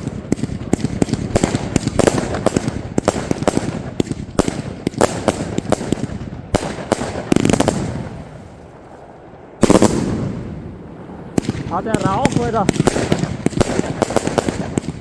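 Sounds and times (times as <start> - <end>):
fireworks bangs and crackles: 0.0 - 15.0
loud firework report: 0.0 - 15.0.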